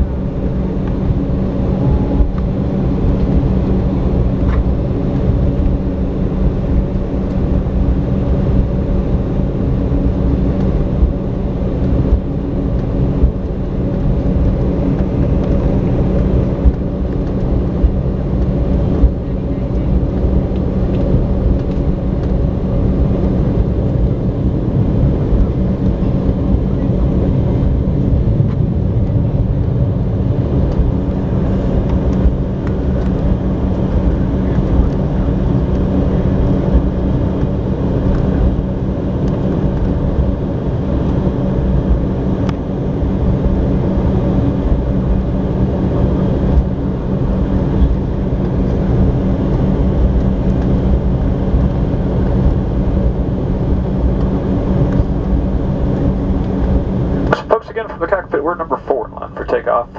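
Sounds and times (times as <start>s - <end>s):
jet engines humming: 0.0s - 59.9s.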